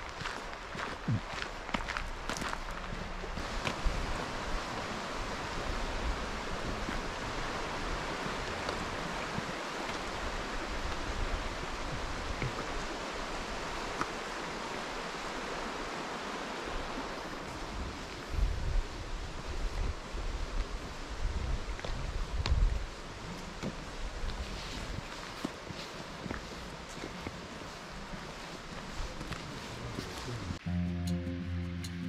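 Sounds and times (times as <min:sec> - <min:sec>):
river water rushing: 0:00.0 - 0:30.6.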